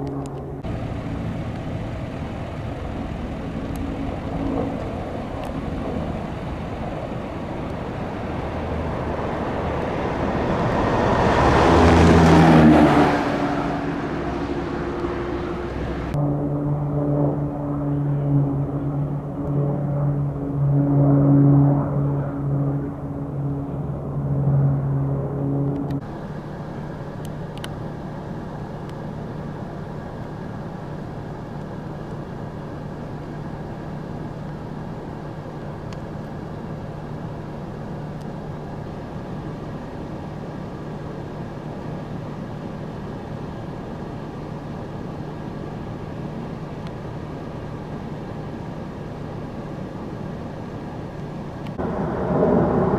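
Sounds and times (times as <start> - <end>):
propeller plane engines droning: 0.0 - 52.9
steady engine hum: 0.0 - 52.9.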